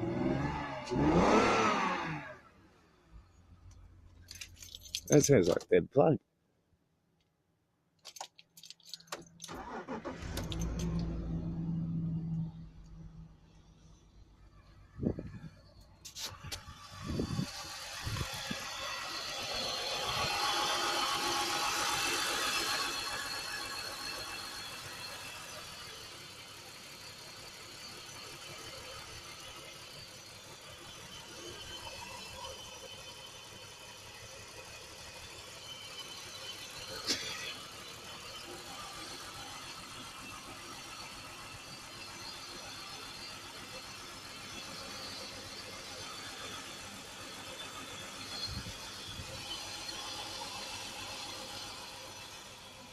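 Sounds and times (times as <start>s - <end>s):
car engine running: 8.3s - 52.9s.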